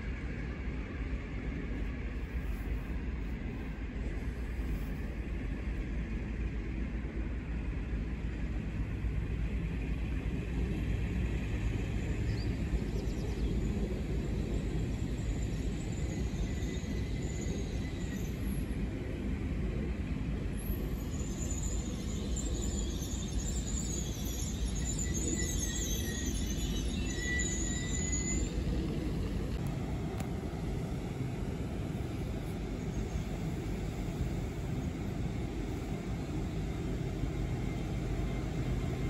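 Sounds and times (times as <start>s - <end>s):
train rumbling slowly: 0.0s - 39.0s.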